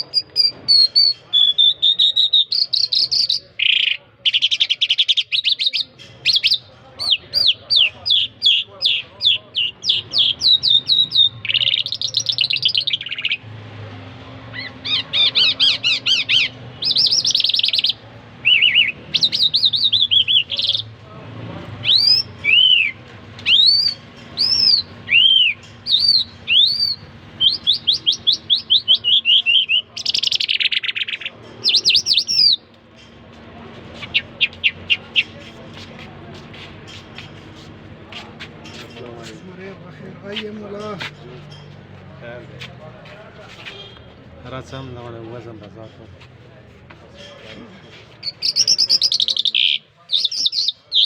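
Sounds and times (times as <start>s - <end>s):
caged songbird singing: 0.0s - 42.5s, 43.6s - 46.0s, 47.2s - 51.0s.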